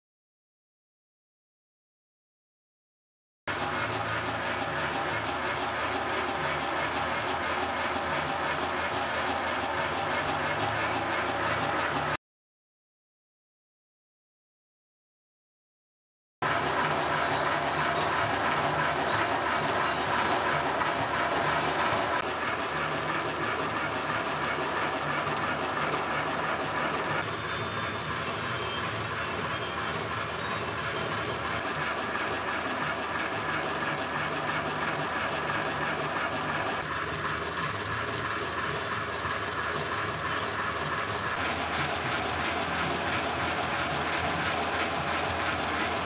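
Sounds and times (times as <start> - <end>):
high-pitched machine whine: 3.5 - 12.2, 16.4 - 46.0
milling machine running: 3.5 - 12.2, 16.4 - 46.0.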